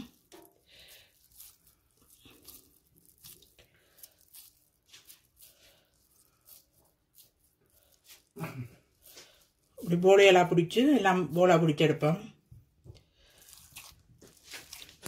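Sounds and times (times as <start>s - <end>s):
wet squelching of minced meat: 0.0s - 15.0s.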